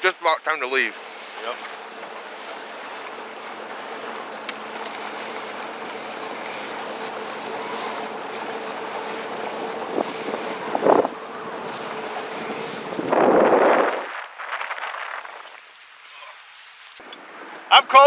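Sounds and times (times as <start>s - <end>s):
boat motor humming: 0.0s - 16.4s
water noise: 0.0s - 18.0s
wind: 0.0s - 18.0s.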